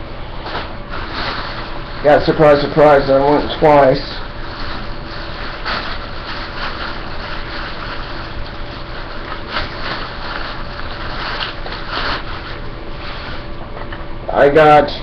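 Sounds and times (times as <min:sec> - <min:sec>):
room hiss: 0:00.0 - 0:13.6
faint electrical hum: 0:00.0 - 0:15.0
rustles and handling noises: 0:00.4 - 0:14.8.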